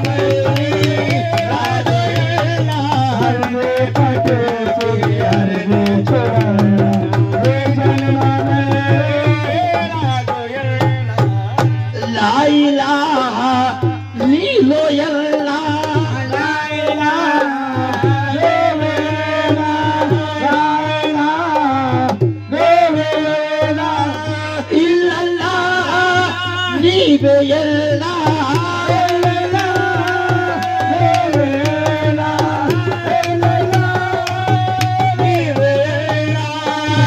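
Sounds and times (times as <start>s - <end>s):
tabla rhythm: 0.0s - 37.0s.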